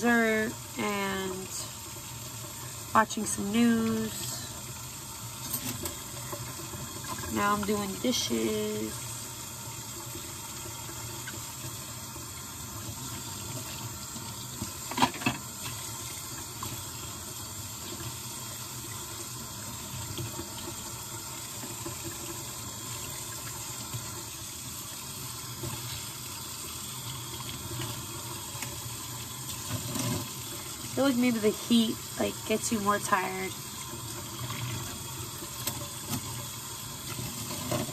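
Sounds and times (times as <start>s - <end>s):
kitchen tap running into sink: 0.0s - 37.9s.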